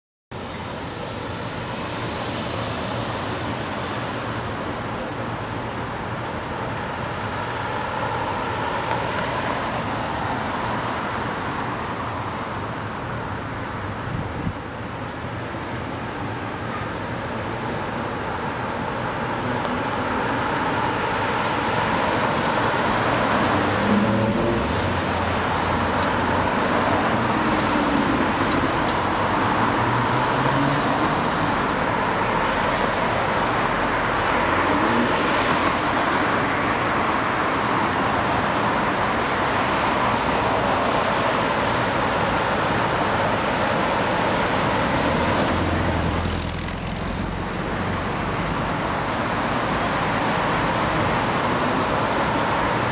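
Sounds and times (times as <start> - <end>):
cars passing: 0.4 - 52.9.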